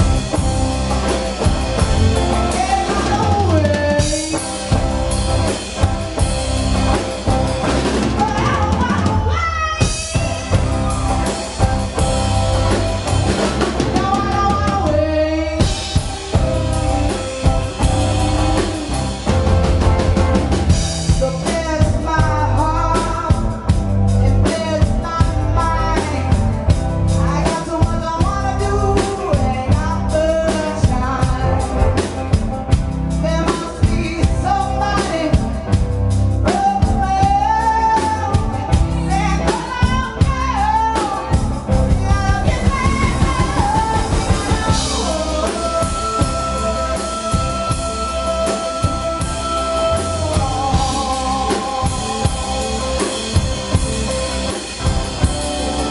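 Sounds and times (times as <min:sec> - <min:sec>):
live band playing: 0:00.0 - 0:55.9
person singing into microphone: 0:00.0 - 0:55.9.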